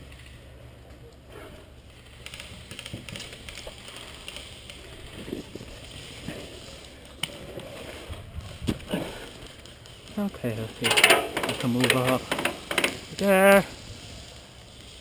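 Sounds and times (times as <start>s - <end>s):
rustling and handling noise: 1.8s - 15.0s.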